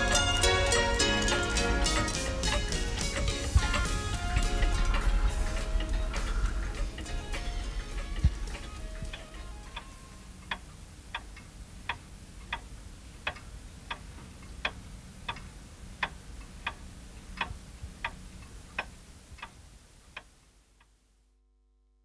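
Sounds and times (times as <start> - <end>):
pendulum clock ticking: 0.0 - 21.0.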